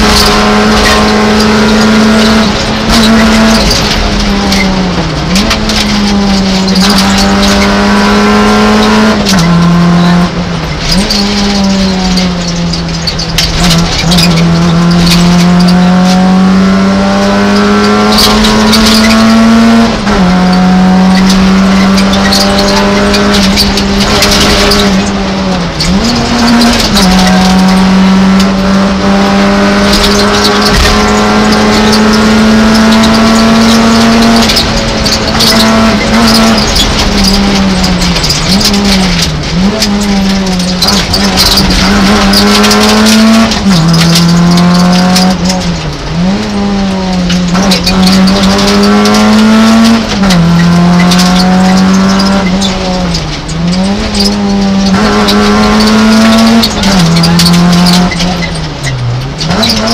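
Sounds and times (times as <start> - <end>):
rally car engine revving hard: 0.0 - 59.9
road and wind noise: 0.0 - 59.9.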